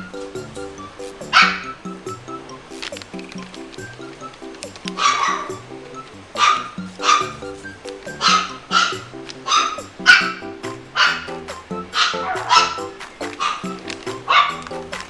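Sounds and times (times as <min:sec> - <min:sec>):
upbeat background music: 0:00.0 - 0:15.0
puppy yapping: 0:01.0 - 0:02.5, 0:03.2 - 0:15.0.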